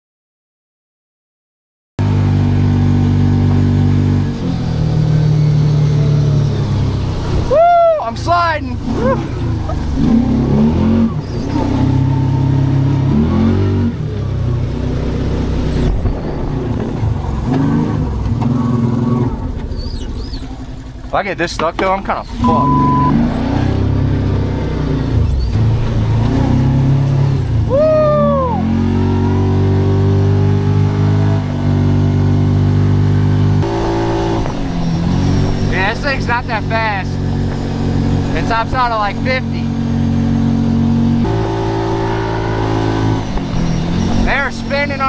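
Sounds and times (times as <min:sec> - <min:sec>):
engine revving: 0:02.0 - 0:45.0.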